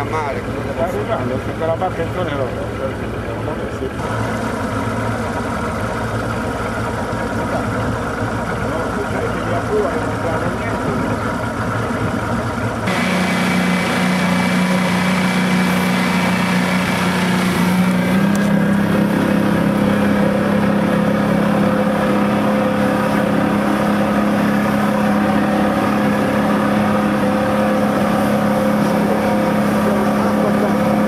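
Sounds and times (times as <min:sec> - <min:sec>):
motorboat engine running: 0:00.0 - 0:31.0.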